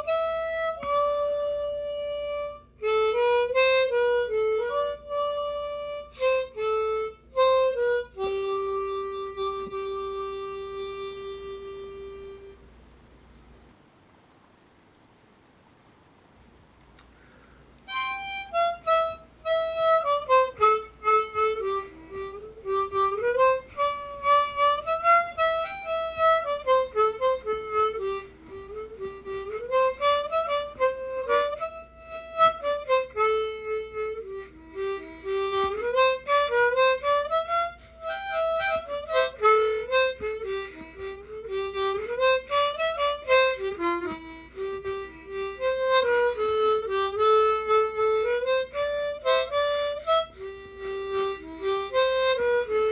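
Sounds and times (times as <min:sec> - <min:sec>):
harmonica playing jig: 0:00.0 - 0:13.1, 0:17.0 - 0:52.9.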